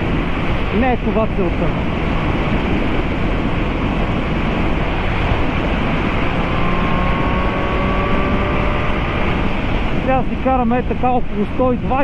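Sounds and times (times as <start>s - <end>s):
motorcycle engine drone: 0.0s - 12.0s
wind rushing on microphone: 0.0s - 12.0s.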